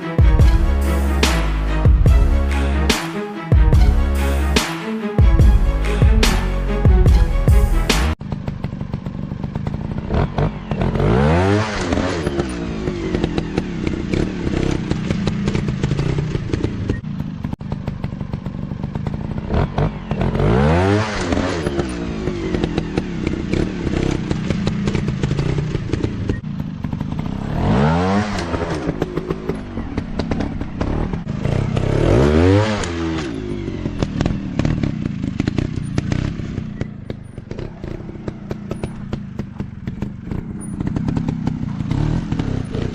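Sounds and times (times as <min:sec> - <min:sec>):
dirt bike engine revving: 0:03.8 - 0:42.9.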